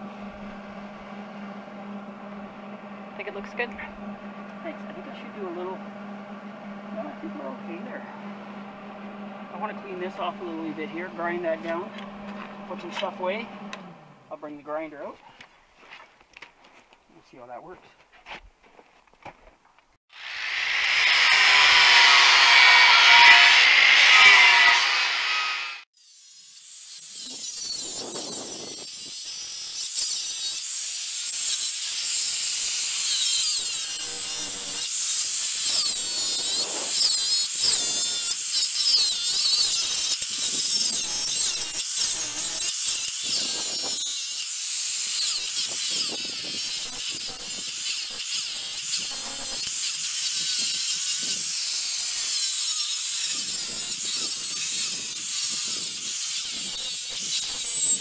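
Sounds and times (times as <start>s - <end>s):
angle grinder grinding metal: 0.0s - 16.0s, 20.2s - 58.0s.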